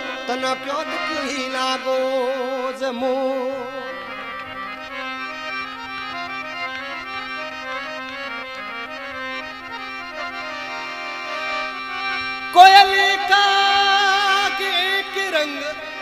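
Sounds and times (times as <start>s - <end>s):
harmonium melody over drone: 0.0s - 16.0s.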